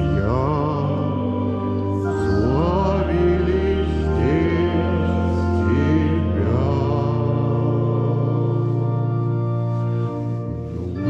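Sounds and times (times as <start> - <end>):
church organ low notes: 0.0 - 11.0
person singing: 0.0 - 11.0.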